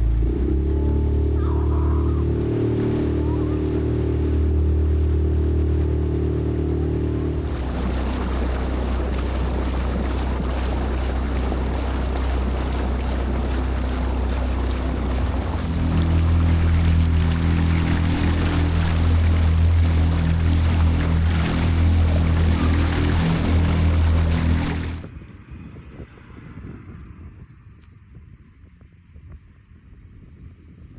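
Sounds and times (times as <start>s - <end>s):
water rushing: 0.0s - 25.1s
motorboat engine running: 0.0s - 26.6s
wind: 0.0s - 30.9s.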